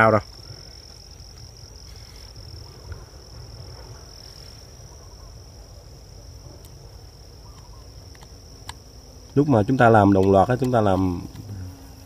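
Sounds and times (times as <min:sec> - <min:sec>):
insect trilling: 0:00.0 - 0:12.0.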